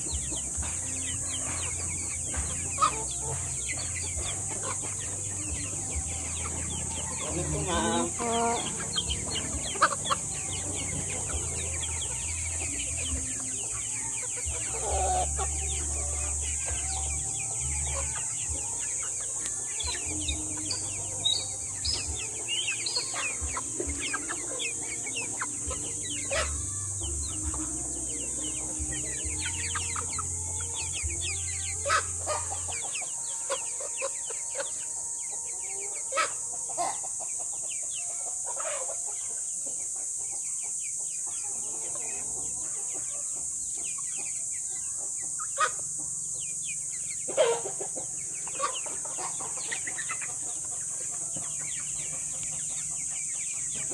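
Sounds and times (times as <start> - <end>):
chickens clucking and chirping: 0.0 - 53.9.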